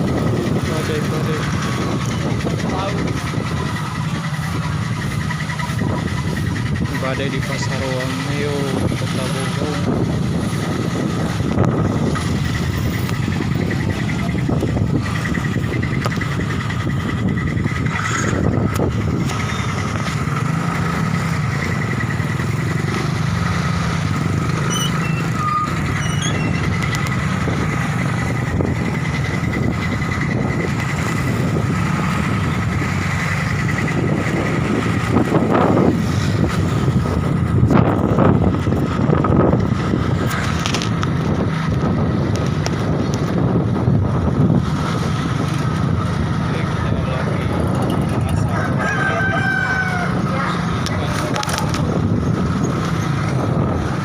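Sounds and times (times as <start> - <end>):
road traffic noise: 0.0 - 54.0
wind rumbling on microphone: 0.0 - 54.0.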